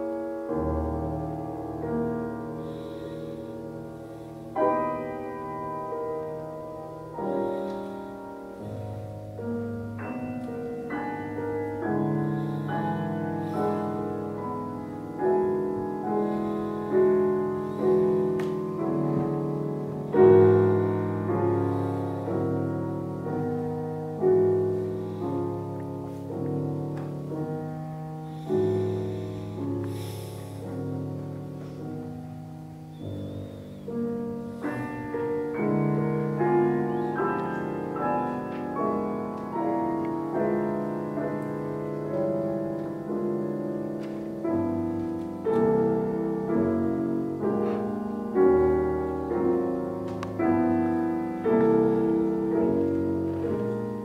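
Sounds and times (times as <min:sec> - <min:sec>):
grand piano chords: 0:00.0 - 0:54.0.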